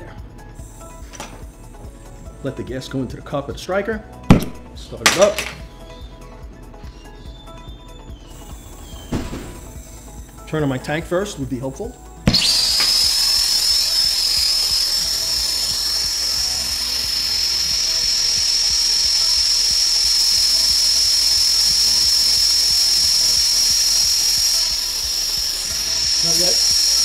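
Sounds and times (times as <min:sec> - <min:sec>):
soldering torch hissing: 0:00.4 - 0:02.4, 0:07.0 - 0:27.0.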